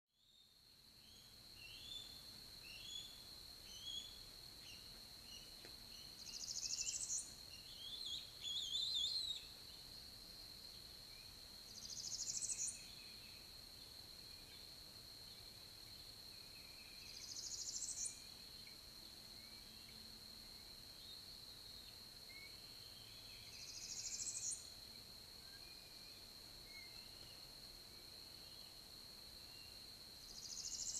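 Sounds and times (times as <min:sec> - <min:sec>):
songbirds chirping: 0:00.2 - 0:30.9.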